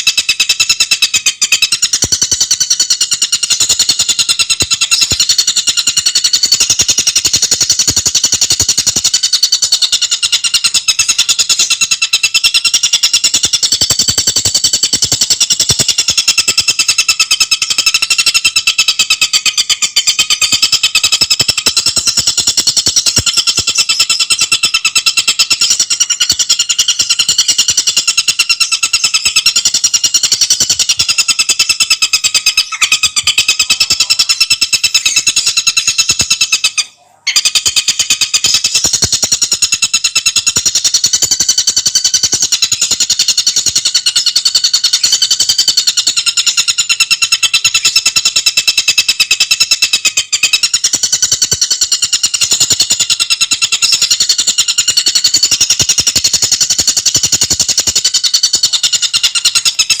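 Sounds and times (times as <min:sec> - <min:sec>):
bird trilling: 0:00.0 - 1:00.0.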